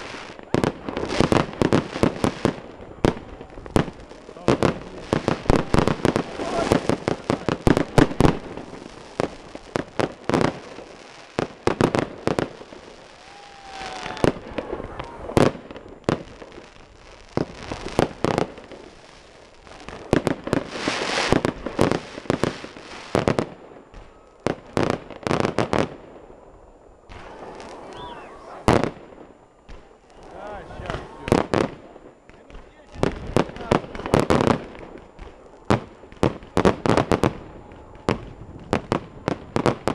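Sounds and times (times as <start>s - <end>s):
fireworks bursting with sharp bangs: 0.0s - 39.9s
fireworks crackling: 0.0s - 39.9s.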